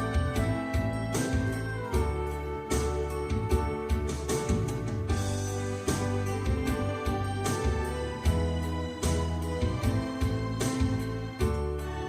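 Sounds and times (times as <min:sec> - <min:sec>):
backing track with deep bass: 0:00.0 - 0:12.0
flute melody: 0:00.0 - 0:12.0.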